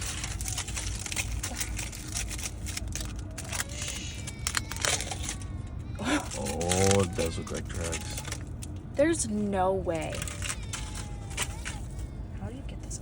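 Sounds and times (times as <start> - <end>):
crinkling handling noise: 0.0 - 8.9, 10.0 - 12.3.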